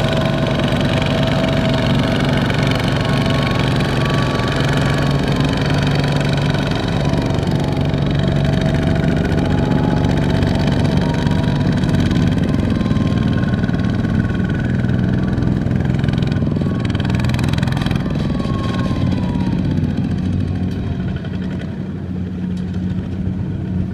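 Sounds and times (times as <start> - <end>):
diesel tractor engine running: 0.0 - 23.9.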